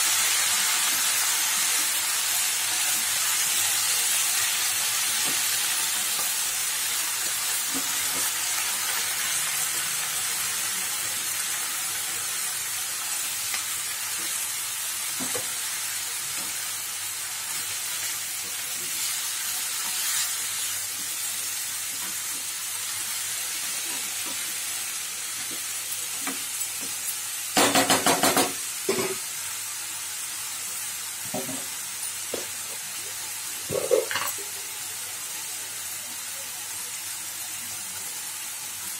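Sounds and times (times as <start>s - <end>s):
greens sizzling in frying pan: 0.0s - 38.9s.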